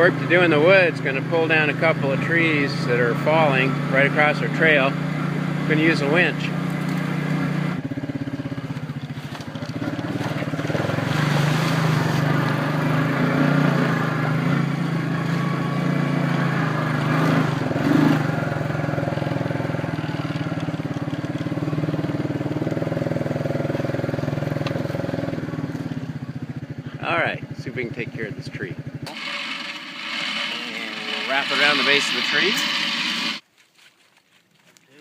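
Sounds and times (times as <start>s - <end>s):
quad bike engine running: 0.0s - 33.4s.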